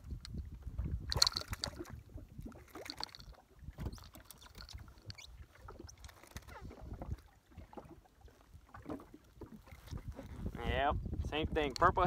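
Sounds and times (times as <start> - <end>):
light knocks and splashes: 0.0 - 10.4
small waves lapping against hull: 0.0 - 12.0.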